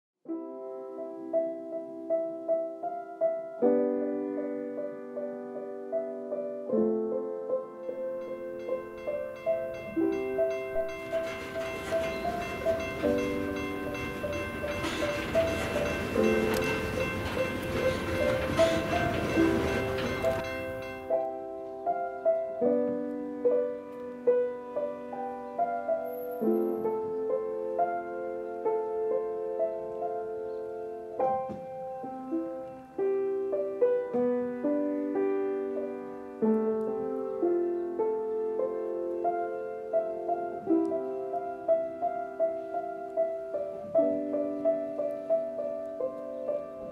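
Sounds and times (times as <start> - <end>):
piano music: 0.2 - 46.9.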